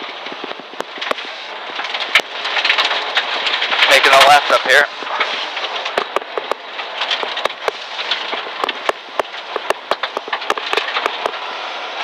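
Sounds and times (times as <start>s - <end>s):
gravel hitting car underside: 0.0s - 11.4s
road noise rushing: 0.0s - 12.0s.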